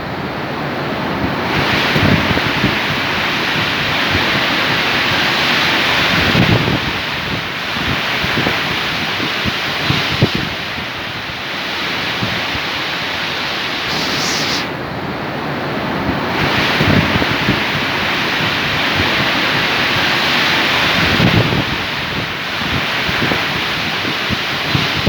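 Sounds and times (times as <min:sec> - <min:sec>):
heavy gusting wind: 0:00.2 - 0:25.0.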